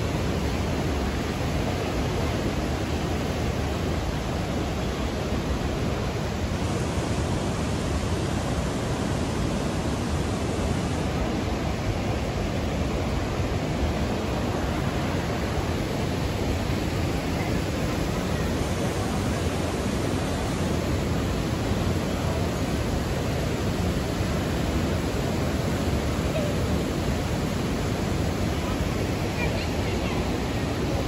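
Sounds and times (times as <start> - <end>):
waterfall and stream rushing: 0.0 - 31.0.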